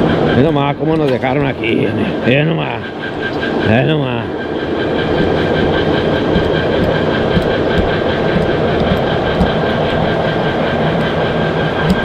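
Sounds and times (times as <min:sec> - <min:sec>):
diesel engine rumbling: 0:00.0 - 0:12.0
high whine: 0:00.0 - 0:12.0.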